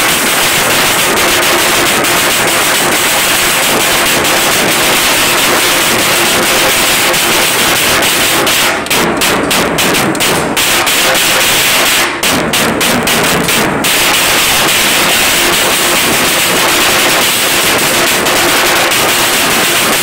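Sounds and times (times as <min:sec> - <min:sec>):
frame drums beaten with sticks: 0:00.0 - 0:20.0.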